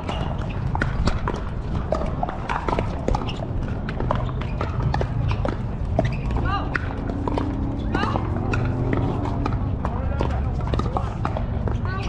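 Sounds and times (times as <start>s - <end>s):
paddles striking plastic balls: 0.0s - 12.0s.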